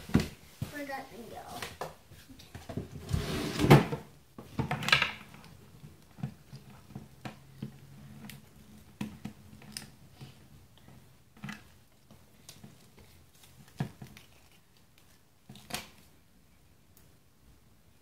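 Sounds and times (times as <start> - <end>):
plastic toys rustling and knocking: 0.0 - 16.1.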